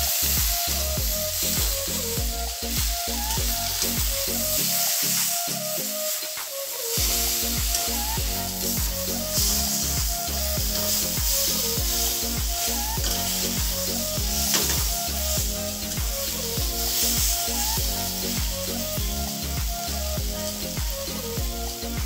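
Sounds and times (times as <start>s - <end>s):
background music with bass line: 0.0s - 22.0s
pods sizzling in a pan: 0.0s - 22.0s.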